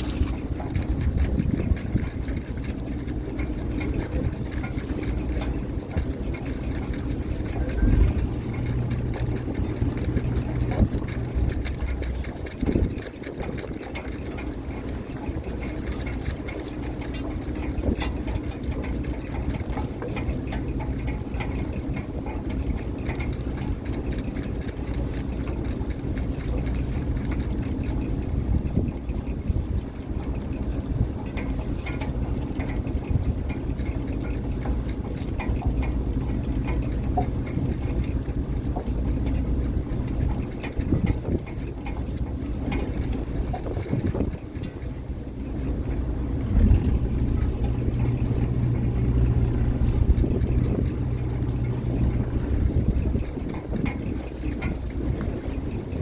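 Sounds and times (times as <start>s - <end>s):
boat engine humming: 0.0s - 56.0s
faint clicks and knocks: 0.0s - 56.0s.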